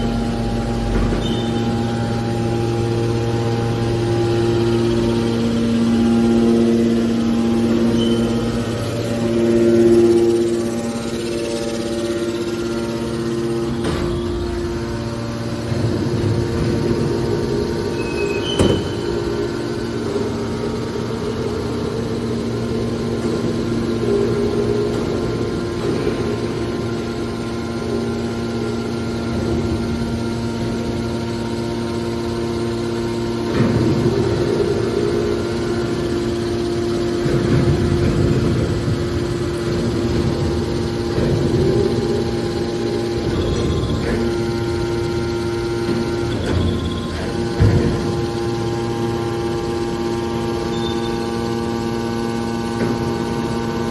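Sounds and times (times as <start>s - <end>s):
pump motor hum: 0.0s - 53.9s.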